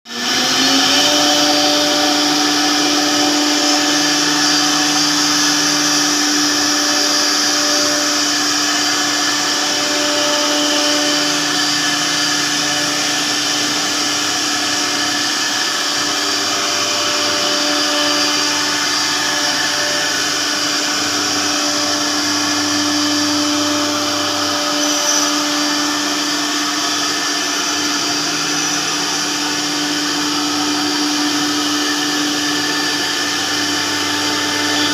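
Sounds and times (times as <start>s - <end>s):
cnc router spindle tone: 0.1s - 34.9s
cutting noise: 0.1s - 34.9s.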